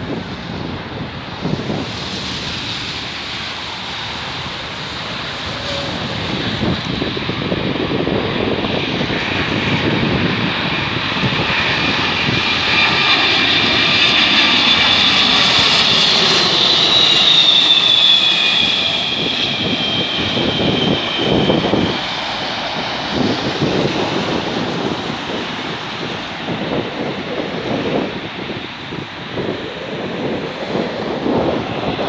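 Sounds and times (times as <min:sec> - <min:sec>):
jet engines with fan whine: 0:00.0 - 0:32.0
wind buffeting microphone: 0:00.0 - 0:32.0.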